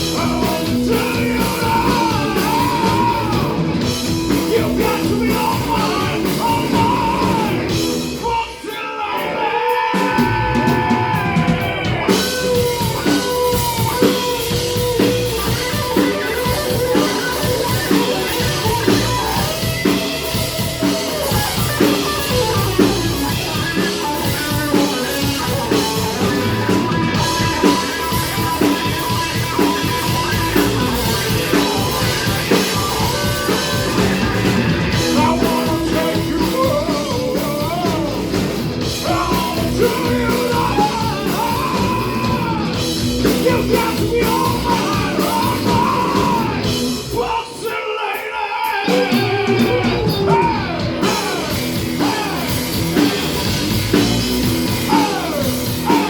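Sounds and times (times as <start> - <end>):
electric guitar: 0.0 - 47.3, 48.8 - 56.0
person singing: 0.0 - 53.7, 54.6 - 56.0
drum kit: 0.0 - 56.0.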